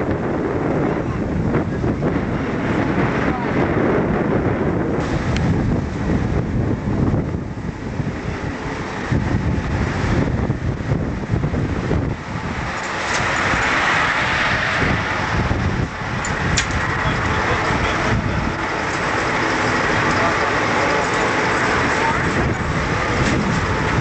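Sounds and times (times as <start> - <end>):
ship machinery rushing: 0.0 - 24.0
wind buffeting microphone: 0.0 - 24.0.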